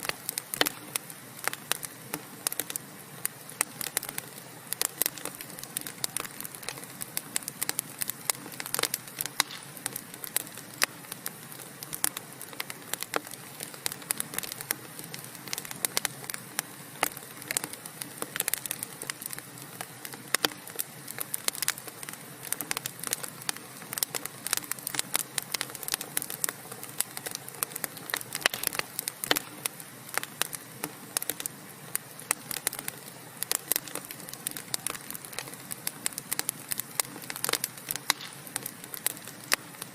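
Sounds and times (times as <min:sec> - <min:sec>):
fire hissing: 0:00.0 - 0:39.9
logs crackling and popping: 0:00.0 - 0:39.9.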